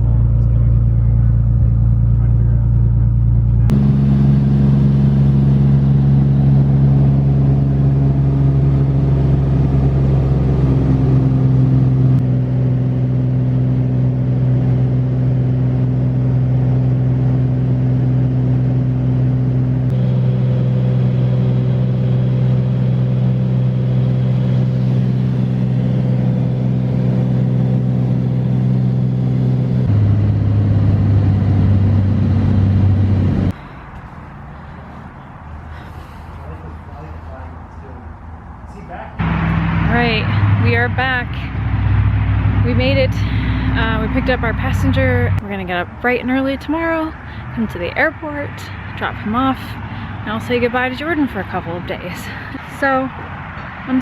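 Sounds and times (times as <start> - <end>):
car engine and road drone: 0.0 - 54.0.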